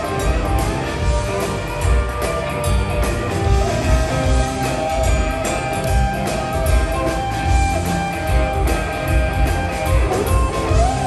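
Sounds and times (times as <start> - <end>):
live band playing boogie-woogie: 0.0 - 11.0.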